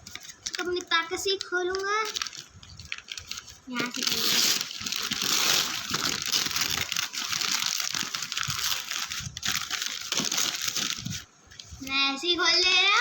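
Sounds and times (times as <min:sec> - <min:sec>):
package wrapping being torn: 0:00.1 - 0:11.3.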